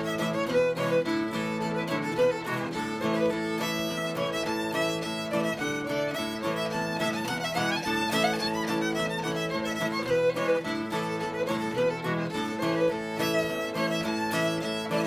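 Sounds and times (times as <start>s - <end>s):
fiddle tune with drone notes: 0.0s - 15.0s.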